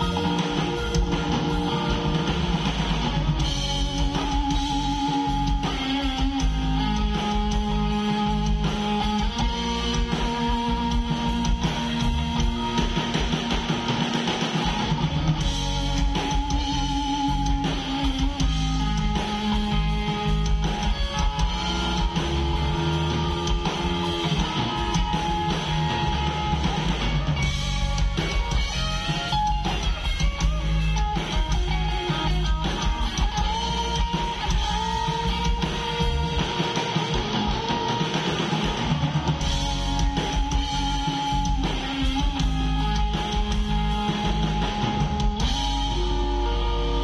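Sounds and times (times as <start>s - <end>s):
drum kit: 0.0s - 47.0s
electric guitars strumming: 0.0s - 47.0s.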